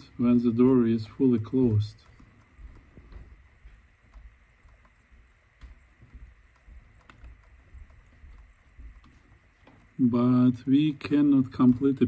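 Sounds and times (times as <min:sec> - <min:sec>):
light mechanism clicks: 0:00.0 - 0:12.0.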